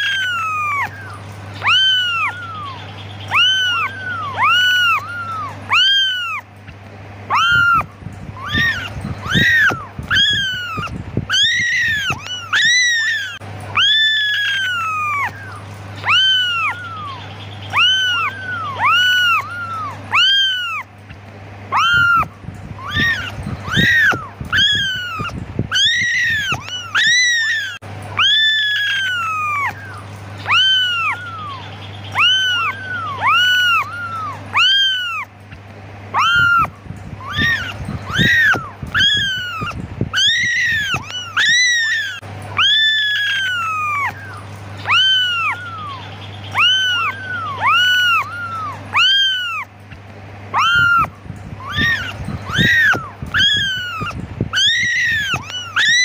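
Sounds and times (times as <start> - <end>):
kittens meowing: 0.0 - 56.0.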